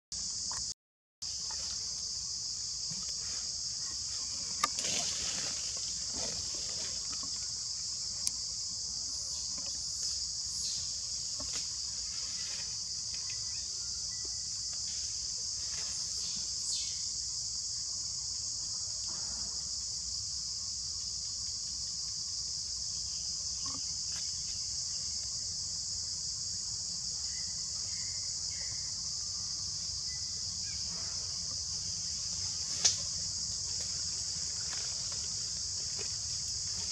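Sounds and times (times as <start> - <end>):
high-pitched insect chorus: 0.2 - 36.9.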